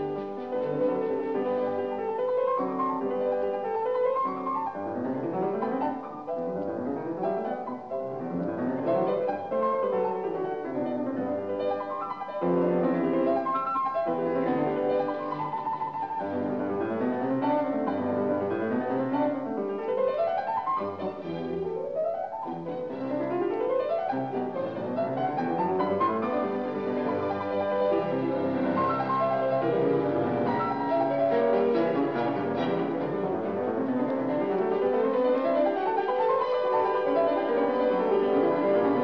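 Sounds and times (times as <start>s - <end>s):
classical piano music: 0.0s - 39.0s.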